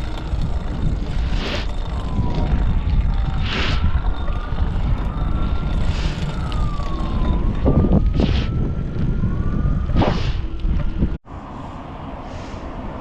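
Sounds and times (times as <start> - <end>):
low rumble: 0.0 - 11.2
emergency siren wailing: 0.0 - 12.2.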